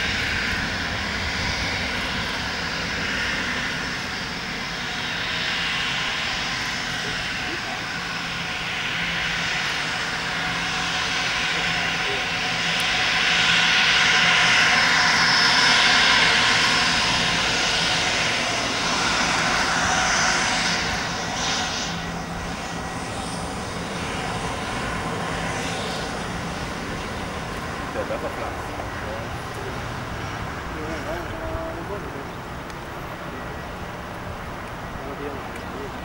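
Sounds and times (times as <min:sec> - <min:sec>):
jet engine noise: 0:00.0 - 0:36.0.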